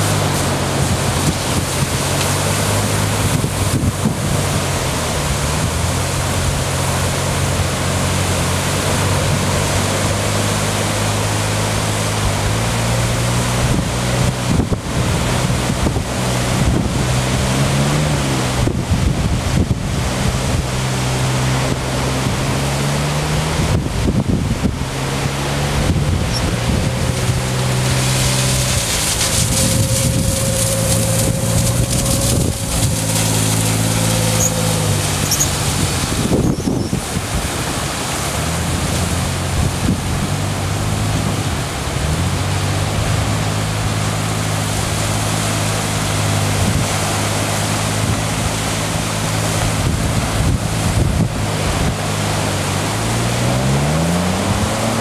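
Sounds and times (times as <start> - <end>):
car engine droning: 0.0 - 55.0
engine revving: 0.0 - 55.0
surf washing in: 0.0 - 55.0
wind on microphone: 0.0 - 55.0.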